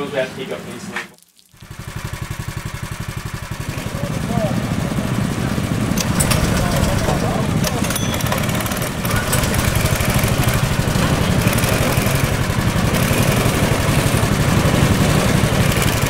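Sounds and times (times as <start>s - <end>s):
go-kart engines rumbling: 1.8s - 16.0s.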